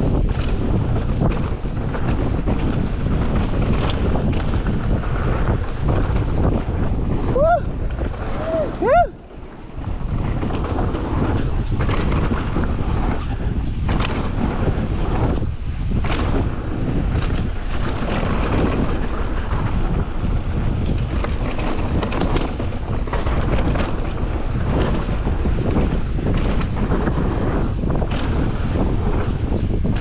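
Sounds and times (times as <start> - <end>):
bike tyres rolling on dirt: 0.0 - 30.0
knocks and rattles: 0.0 - 30.0
wind rushing over microphone: 0.0 - 30.0.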